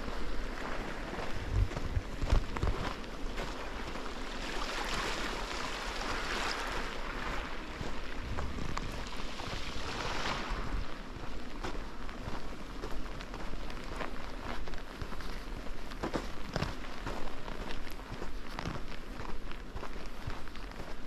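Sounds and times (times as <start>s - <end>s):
wind buffeting microphone: 0.0s - 4.3s, 4.9s - 20.3s
waves washing on shore: 0.0s - 18.6s.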